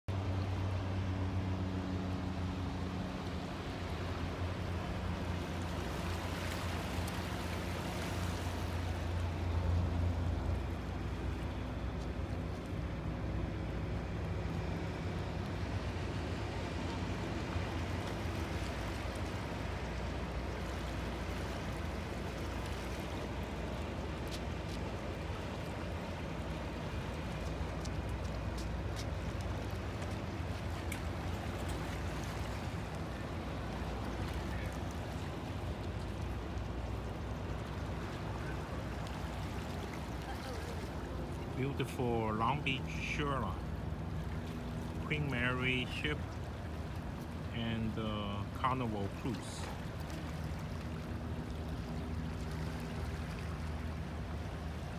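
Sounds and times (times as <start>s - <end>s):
boat engines droning: 0.1s - 54.9s
water wash: 0.1s - 54.9s.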